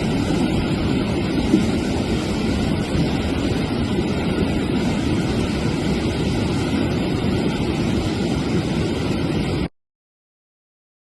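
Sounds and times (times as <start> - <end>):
heavy rain rushing: 0.0 - 9.7.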